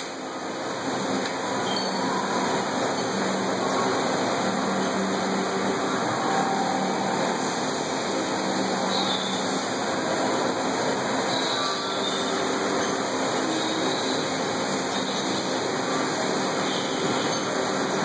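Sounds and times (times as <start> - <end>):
coolant spray rushing: 0.0 - 18.0
faint steady machine tones: 0.0 - 18.0.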